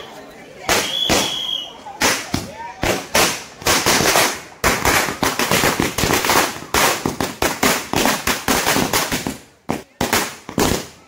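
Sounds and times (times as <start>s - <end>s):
firecrackers banging: 0.5s - 11.0s.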